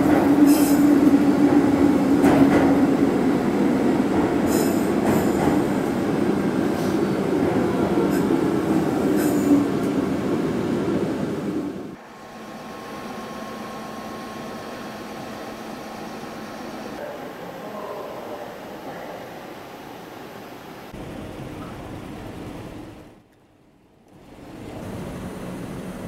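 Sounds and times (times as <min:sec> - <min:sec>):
electric train rumbling on rails: 0:00.0 - 0:23.3, 0:23.9 - 0:26.0.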